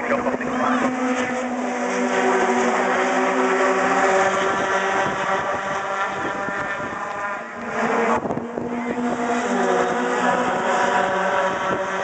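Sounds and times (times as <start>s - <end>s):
truck engines at high revs: 0.0s - 12.0s.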